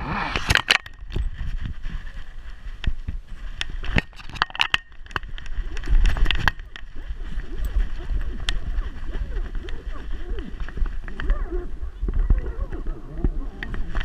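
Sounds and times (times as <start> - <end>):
camera rubbing and knocking: 0.3 - 14.0.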